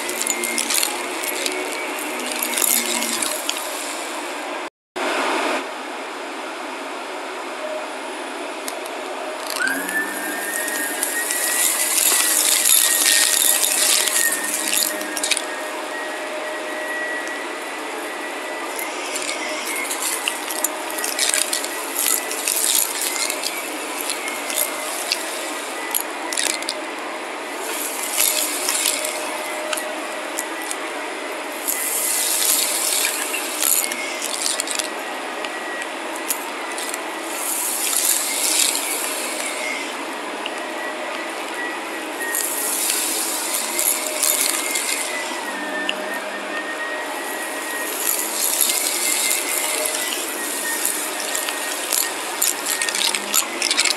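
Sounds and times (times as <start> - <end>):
vacuum sucking up crackly grit: 0.0 - 4.3, 8.7 - 53.9
vacuum cleaner motor whine: 0.0 - 5.9, 6.6 - 53.9.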